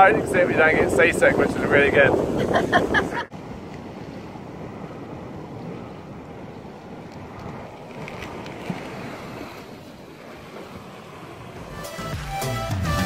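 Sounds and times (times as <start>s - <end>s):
wind on microphone: 0.0s - 11.8s
surf washing around rocks: 0.0s - 11.9s.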